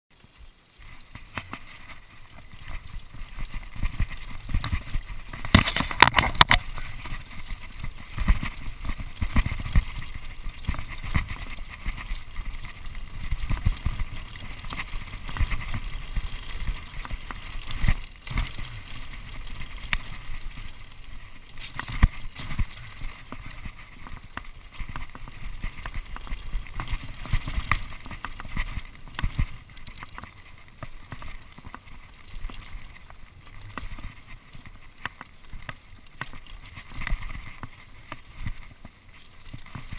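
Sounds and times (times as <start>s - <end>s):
tyres crunching over stones: 0.3s - 39.9s
bike rattling and knocking: 0.9s - 38.6s.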